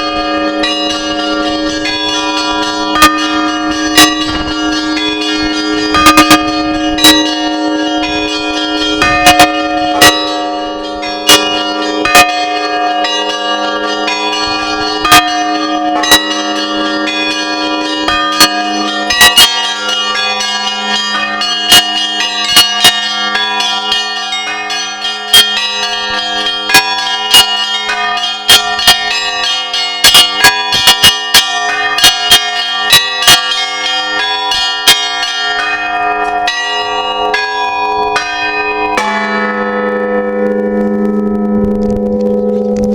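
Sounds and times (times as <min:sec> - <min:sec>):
church bells pealing: 0:00.0 - 0:42.9.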